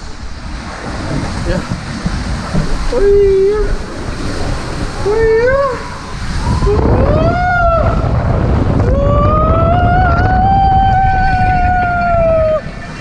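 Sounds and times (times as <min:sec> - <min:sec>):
rushing water: 0:00.0 - 0:13.0
wind noise: 0:00.0 - 0:13.0.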